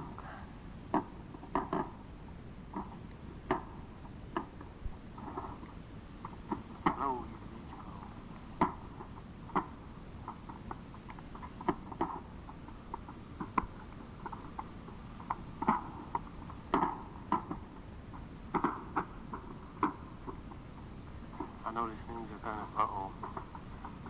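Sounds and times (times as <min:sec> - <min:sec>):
distant ammunition pops and bangs: 0:00.9 - 0:02.1, 0:02.7 - 0:24.0.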